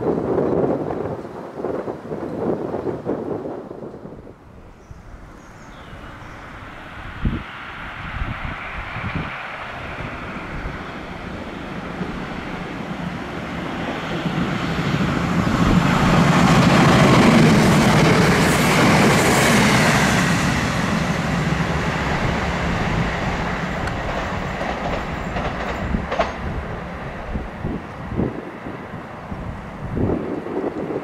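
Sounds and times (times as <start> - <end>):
train passing at speed: 0.0 - 31.0.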